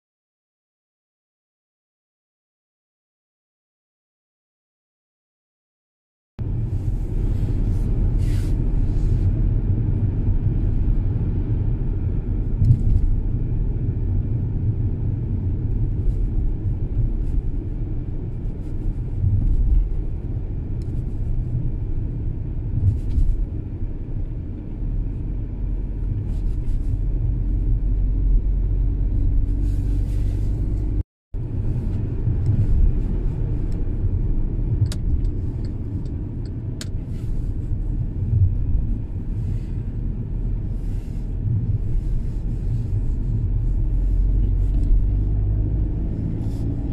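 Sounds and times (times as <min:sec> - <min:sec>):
car engine and tyre rumble: 0:06.4 - 0:46.9.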